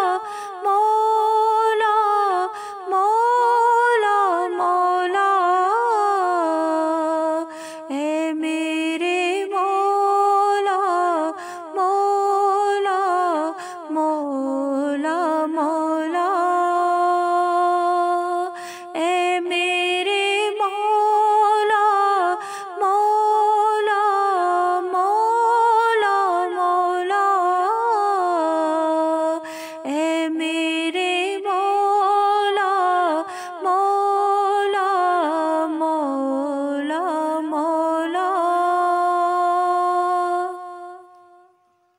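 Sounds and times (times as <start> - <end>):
woman singing unaccompanied: 0.0 - 41.5.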